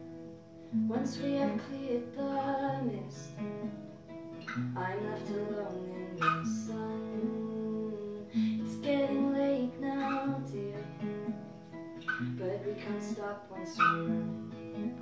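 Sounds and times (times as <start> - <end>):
acoustic guitar: 0.0 - 15.0
woman singing: 0.7 - 3.7, 4.5 - 11.4, 12.0 - 15.0.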